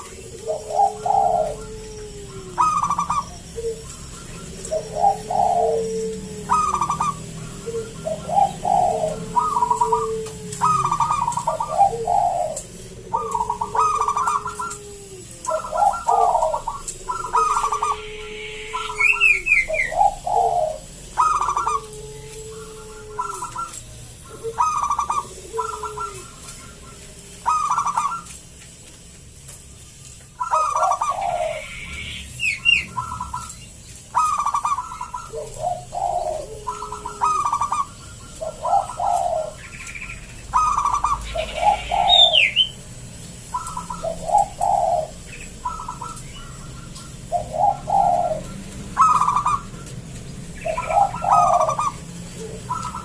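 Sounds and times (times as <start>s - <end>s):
higher bird chirps: 0.0s - 28.8s, 29.6s - 53.0s
dove cooing: 0.0s - 53.0s.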